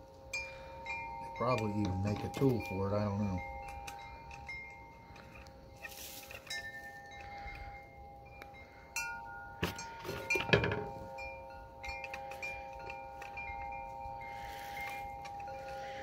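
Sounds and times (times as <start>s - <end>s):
chime-like ringing tones: 0.0s - 16.0s.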